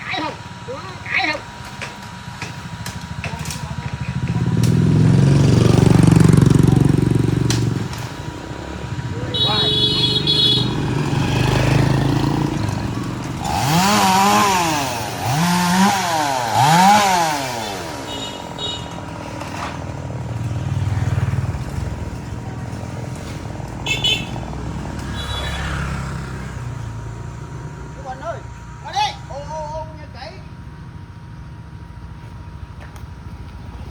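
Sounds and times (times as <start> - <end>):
chainsaw revving: 0.4 - 29.0.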